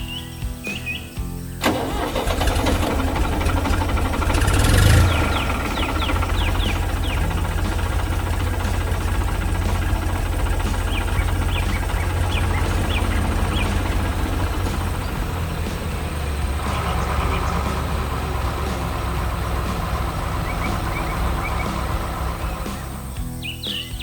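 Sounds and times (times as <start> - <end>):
bird chirps: 0.0 - 1.6, 3.6 - 24.0
tractor engine droning: 1.6 - 23.2.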